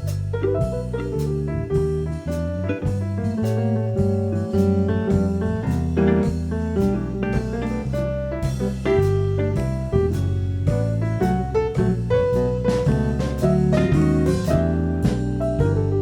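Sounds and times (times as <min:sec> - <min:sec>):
drum kit keeping time: 0:00.0 - 0:16.0
jazz combo playing: 0:00.0 - 0:16.0
walking bass: 0:00.0 - 0:16.0.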